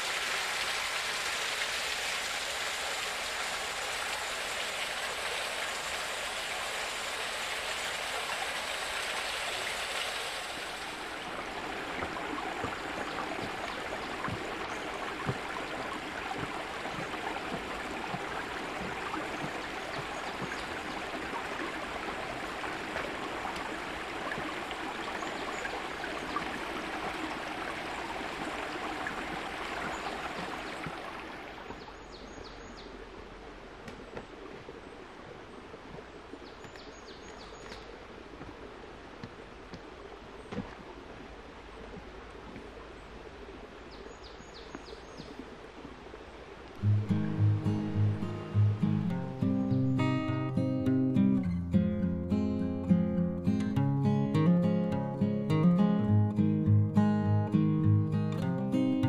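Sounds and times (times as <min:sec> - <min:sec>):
stream splashing over rocks: 0:00.0 - 0:51.0
small waterfall: 0:00.0 - 0:59.0.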